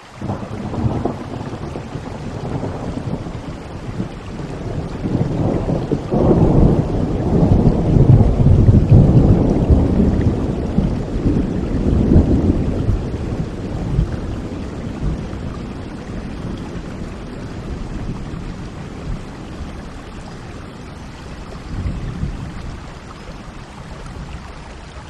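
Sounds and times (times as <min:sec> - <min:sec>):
steady rain hiss: 0:00.0 - 0:25.0
rolling thunder: 0:00.2 - 0:22.9.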